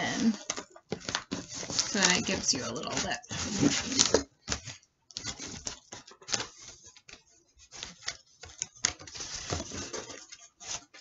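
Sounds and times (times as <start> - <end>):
cardboard crinkling and scraping: 0.0 - 11.0.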